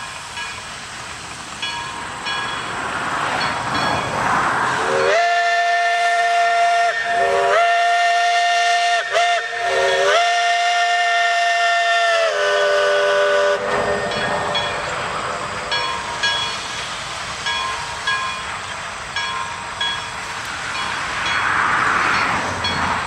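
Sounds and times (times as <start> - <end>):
steam hiss: 0.0 - 23.0
train running noise: 0.0 - 23.0
steam locomotive chime whistle: 3.4 - 23.0.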